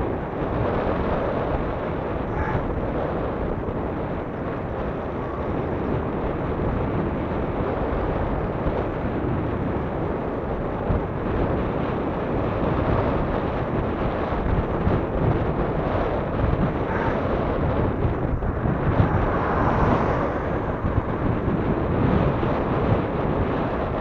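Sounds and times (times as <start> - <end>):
tyres rolling on asphalt: 0.0 - 24.0
wind on microphone: 0.0 - 24.0.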